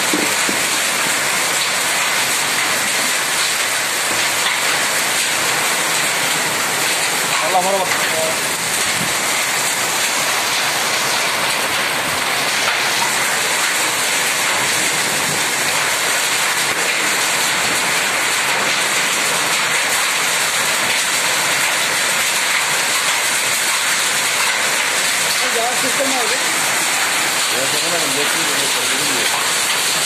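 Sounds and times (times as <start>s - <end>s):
hail and rain pelting roofs: 0.0s - 30.0s.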